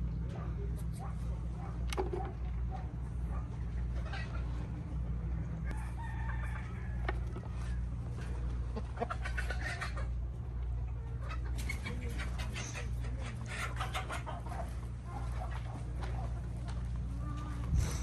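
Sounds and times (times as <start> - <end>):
steady low hum: 0.0 - 18.0
chickens clucking: 0.1 - 18.0.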